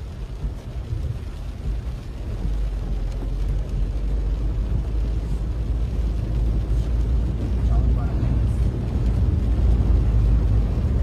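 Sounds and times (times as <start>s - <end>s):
rushing floodwater rumble: 0.0s - 11.0s.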